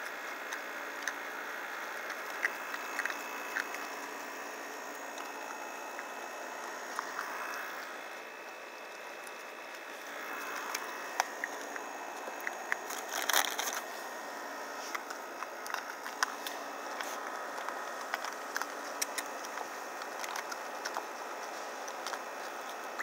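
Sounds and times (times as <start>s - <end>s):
raccoons crunching crackers: 0.0s - 23.0s.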